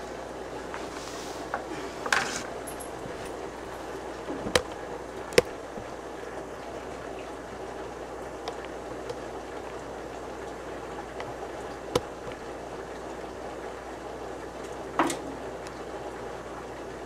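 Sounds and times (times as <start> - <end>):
aquarium filter bubbling: 0.0 - 17.0.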